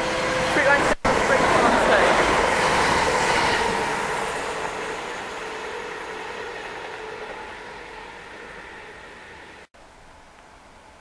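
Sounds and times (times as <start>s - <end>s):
electric train passing at speed: 0.0s - 10.2s.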